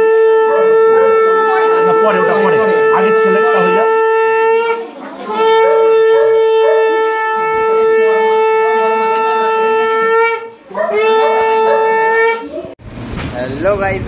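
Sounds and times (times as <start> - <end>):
conch shell blown: 0.0 - 12.5.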